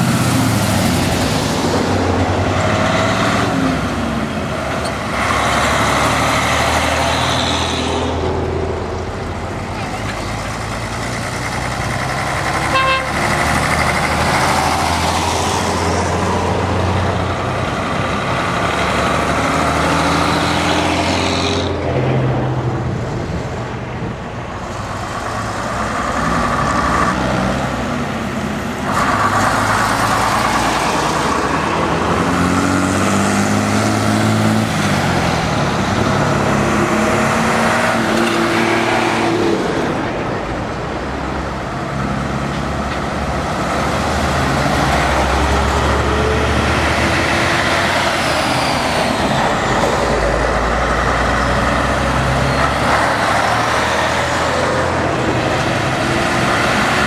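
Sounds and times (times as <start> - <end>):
diesel trucks driving past: 0.0 - 57.0.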